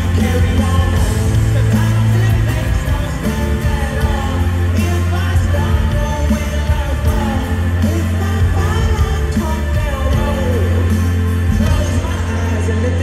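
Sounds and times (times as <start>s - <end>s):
live rock band: 0.0s - 13.0s
man singing lead vocal: 0.0s - 13.0s.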